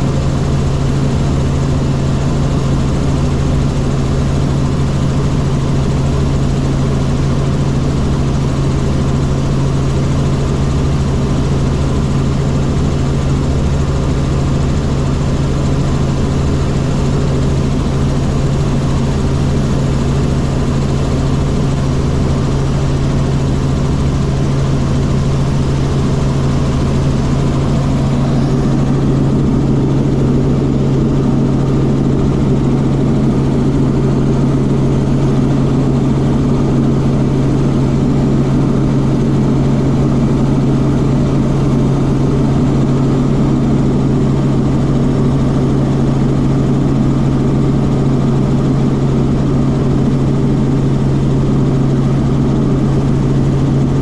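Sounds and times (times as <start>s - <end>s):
helicopter engine and rotors droning: 0.0s - 54.0s.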